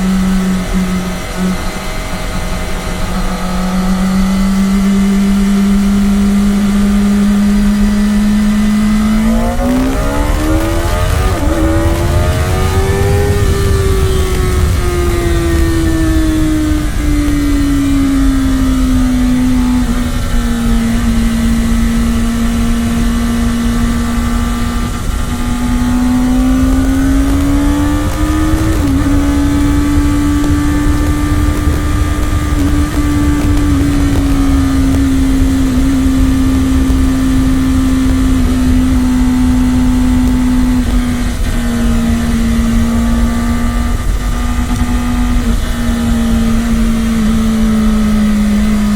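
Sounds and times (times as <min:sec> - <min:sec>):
motorcycle engine at high revs: 0:00.0 - 0:48.9.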